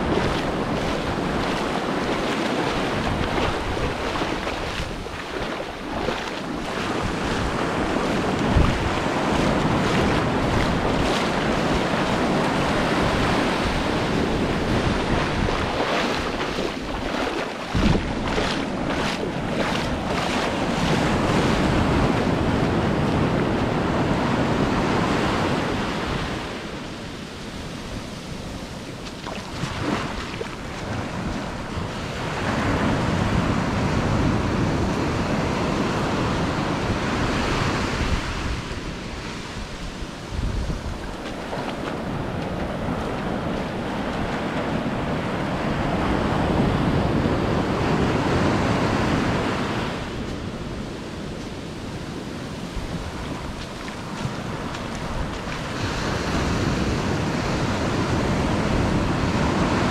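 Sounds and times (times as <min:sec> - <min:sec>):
waves breaking on beach: 0:00.0 - 0:59.9
wind buffeting microphone: 0:00.0 - 0:59.9.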